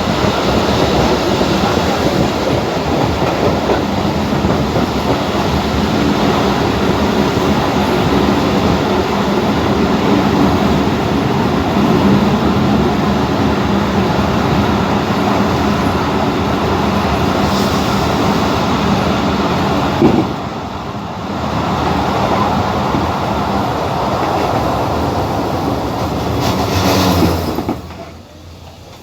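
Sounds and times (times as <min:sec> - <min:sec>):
train carriage rumble and rattle: 0:00.0 - 0:29.0.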